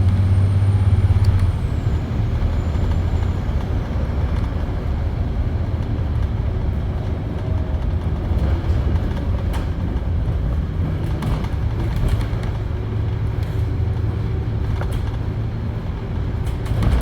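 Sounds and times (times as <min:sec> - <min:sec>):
bus body rattling: 0:00.0 - 0:17.0
bus diesel engine droning: 0:00.0 - 0:17.0.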